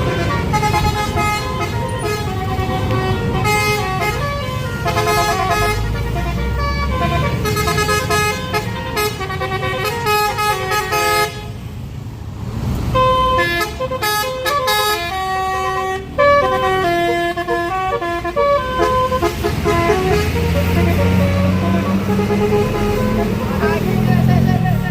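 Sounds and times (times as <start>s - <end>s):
bus multi-tone horn tune: 0.0s - 11.8s, 12.9s - 24.9s.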